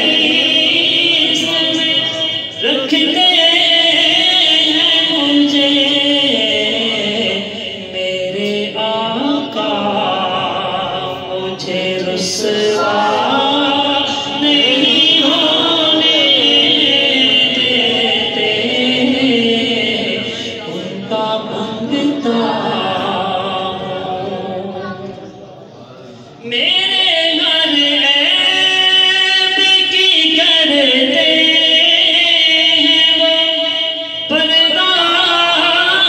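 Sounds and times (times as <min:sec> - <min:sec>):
man singing into a microphone: 0:00.0 - 0:25.0, 0:26.4 - 0:36.0.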